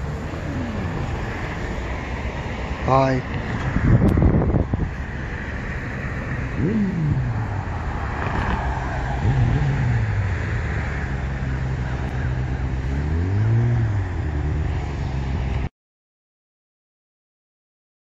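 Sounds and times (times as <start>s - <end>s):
road rumble: 0.0s - 15.7s
vehicle engines pulling away: 0.0s - 15.7s.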